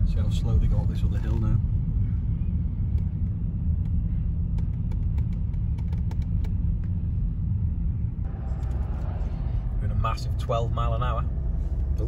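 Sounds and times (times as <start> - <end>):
vehicle road rumble from inside cab: 0.0 - 12.0.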